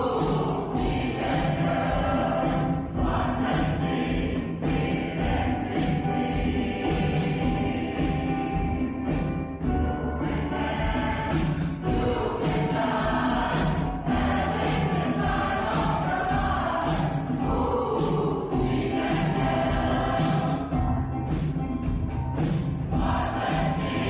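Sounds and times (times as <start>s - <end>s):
mixed choir singing: 0.0s - 21.6s, 22.4s - 24.0s
musical accompaniment: 0.0s - 24.0s.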